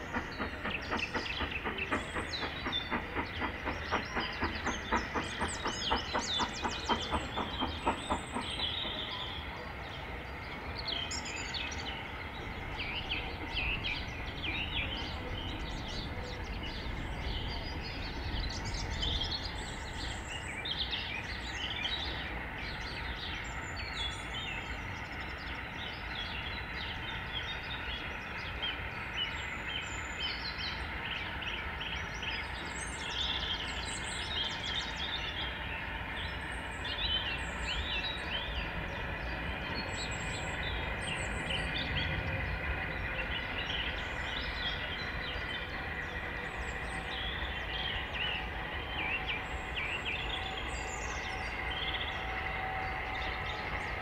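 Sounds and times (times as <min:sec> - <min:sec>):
birds chirping and singing: 0:00.0 - 0:54.0
distant train and station rumble: 0:00.0 - 0:54.0
train rhythmic clatter: 0:00.0 - 0:54.0.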